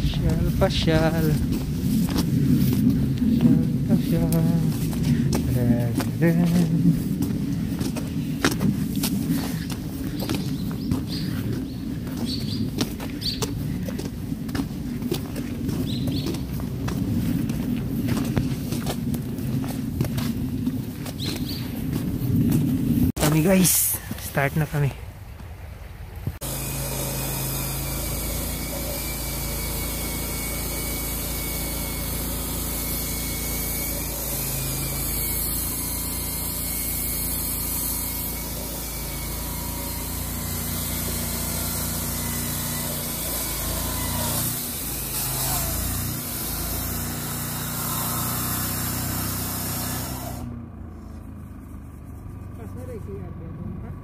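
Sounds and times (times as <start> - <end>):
construction machinery engine hum: 0.0 - 54.0.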